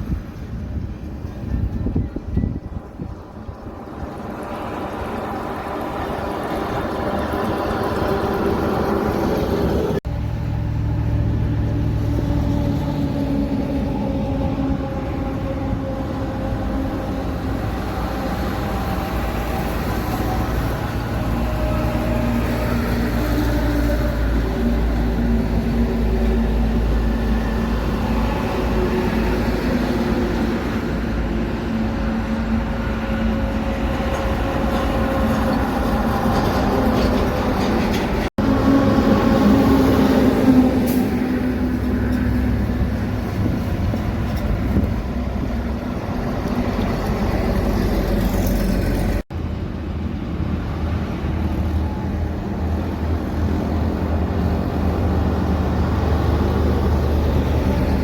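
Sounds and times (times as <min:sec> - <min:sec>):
heavy vehicles driving by: 0:00.0 - 0:58.0.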